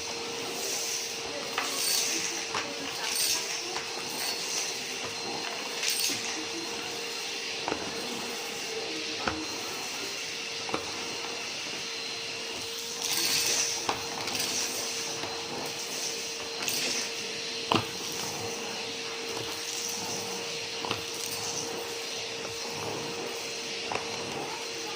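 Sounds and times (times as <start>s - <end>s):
vacuum cleaner motor hum: 0.0s - 24.9s.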